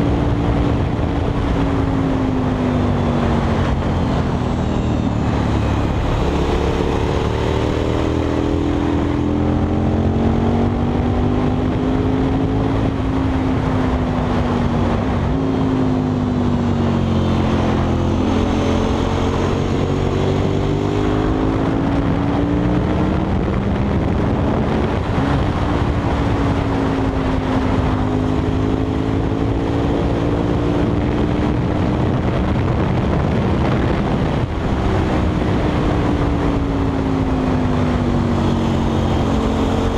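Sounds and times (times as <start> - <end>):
motorcycle engine accelerating: 0.0 - 39.9
wind and road rush: 0.0 - 39.9.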